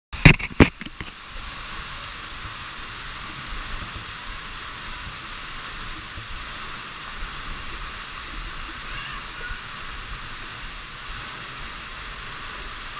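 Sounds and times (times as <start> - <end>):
waterfall pouring into pool: 0.2 - 12.9.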